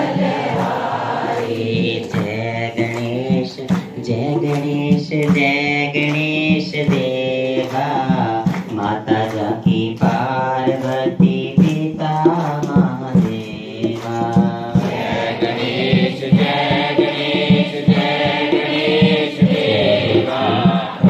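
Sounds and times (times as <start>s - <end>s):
devotional chant sung to music: 0.0s - 21.0s.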